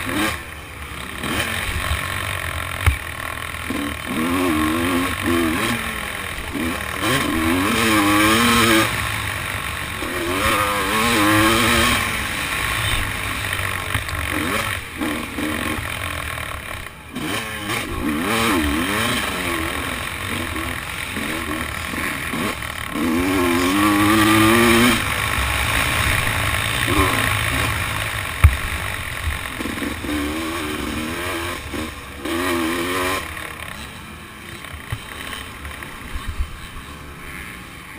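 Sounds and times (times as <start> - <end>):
dirt bike engine racing: 0.0 - 37.9.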